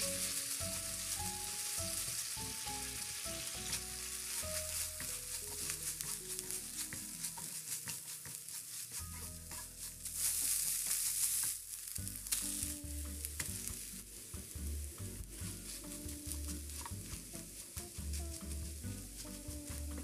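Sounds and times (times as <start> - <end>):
food sizzling in frying pan: 0.0 - 20.0.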